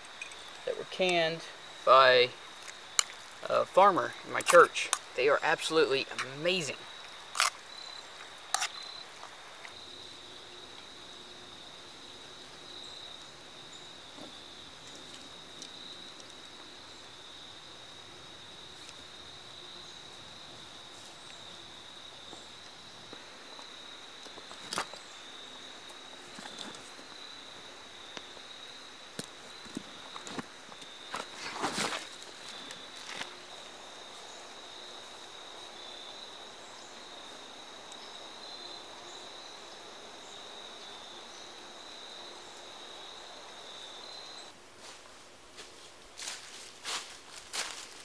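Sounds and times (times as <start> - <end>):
insects trilling: 0.0 - 48.0.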